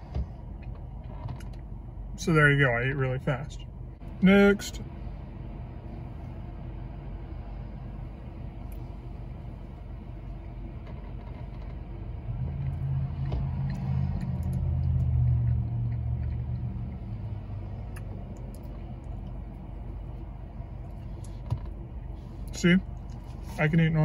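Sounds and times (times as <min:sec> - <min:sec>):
low vehicle rumble: 0:00.0 - 0:24.0.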